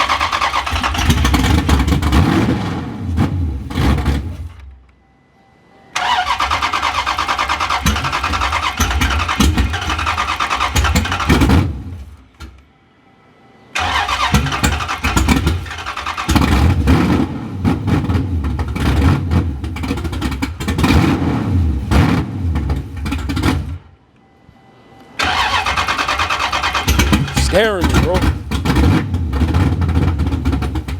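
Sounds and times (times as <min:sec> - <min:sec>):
car engine starting and revving: 0:00.0 - 0:04.7, 0:06.0 - 0:12.3, 0:13.8 - 0:23.9, 0:25.2 - 0:30.9.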